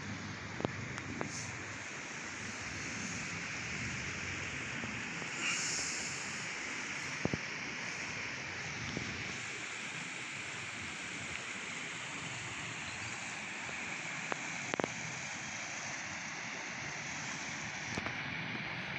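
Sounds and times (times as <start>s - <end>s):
creek water flowing: 0.0s - 18.9s.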